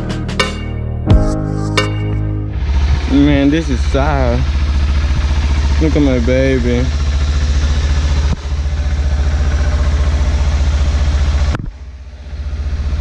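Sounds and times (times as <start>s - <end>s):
motorcycle engine idling: 2.5s - 13.0s.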